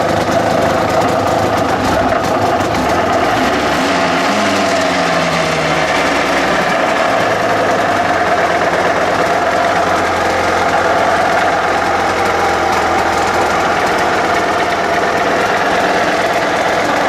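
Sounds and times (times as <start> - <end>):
two-stroke engine idling: 0.0 - 17.0.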